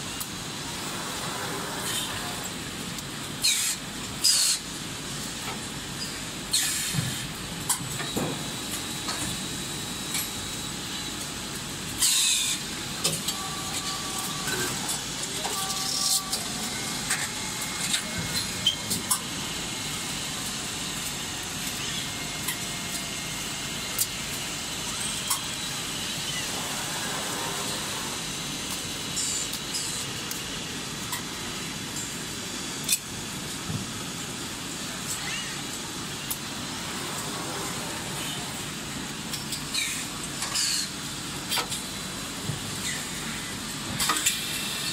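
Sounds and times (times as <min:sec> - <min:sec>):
steady machine noise: 0:00.0 - 0:44.9.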